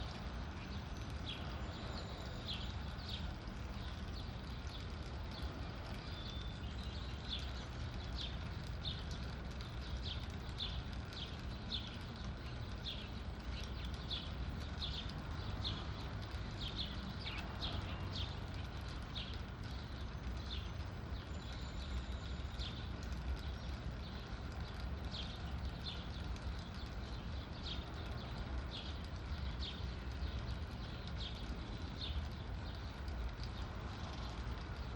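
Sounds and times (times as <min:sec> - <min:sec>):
birds chipping at feeder: 0:00.0 - 0:34.9
steady low rumble: 0:00.0 - 0:34.9.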